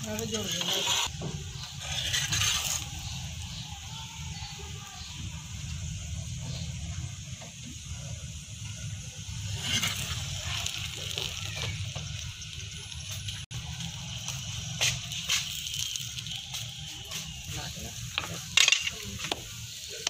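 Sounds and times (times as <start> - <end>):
flatbread sizzling on hot griddle: 0.0 - 20.0.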